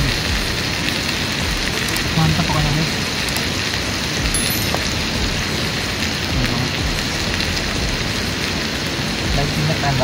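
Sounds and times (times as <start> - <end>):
rain-like hiss: 0.0 - 10.0.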